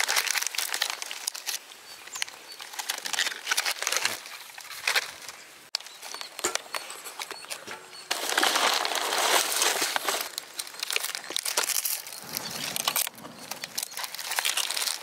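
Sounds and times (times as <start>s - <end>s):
dry palm leaves crackling: 0.0s - 15.0s.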